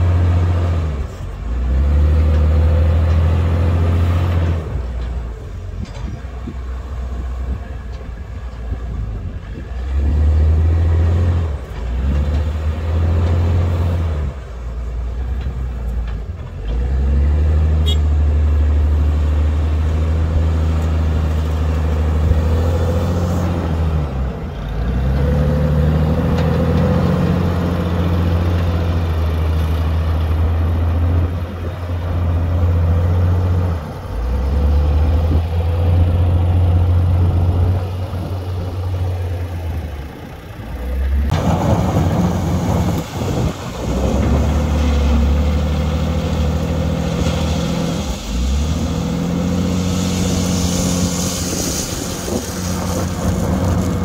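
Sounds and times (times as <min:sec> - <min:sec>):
diesel engine revving under load: 0:00.0 - 0:54.0.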